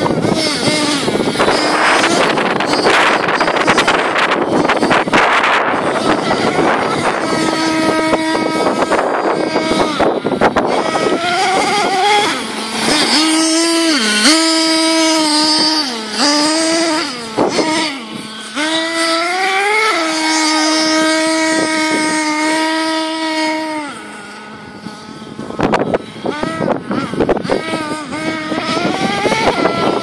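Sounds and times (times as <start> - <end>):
model engine revving at high revs: 0.0 - 30.0.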